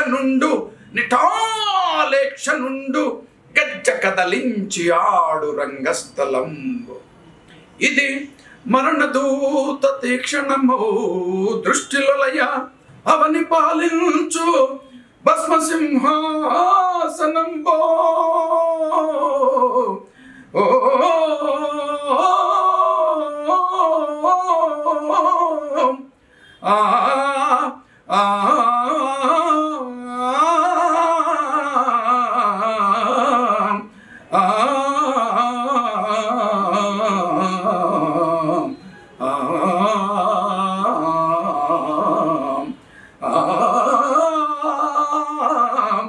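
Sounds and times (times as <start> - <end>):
man singing long wavering vowels: 0.0 - 7.1, 7.8 - 46.0.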